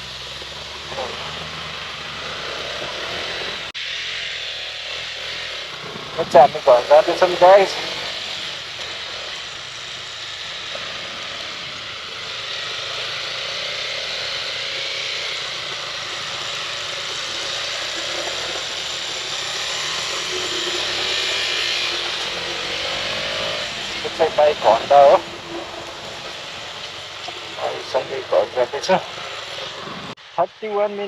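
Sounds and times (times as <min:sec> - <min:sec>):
motorcycle engine drone: 0:00.0 - 0:31.0
wind and road noise: 0:00.0 - 0:31.0.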